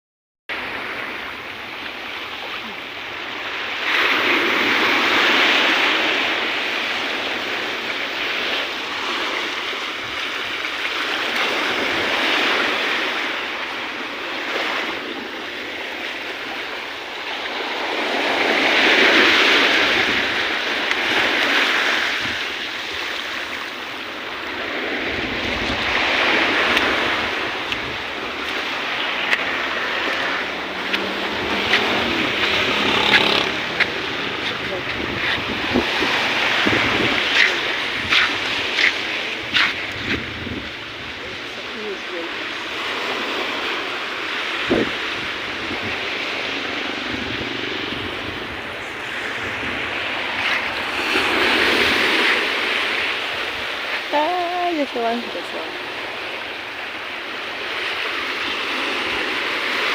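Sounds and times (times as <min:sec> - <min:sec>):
sea surf washing ashore: 0:00.5 - 0:59.9
waves breaking: 0:00.5 - 0:59.9.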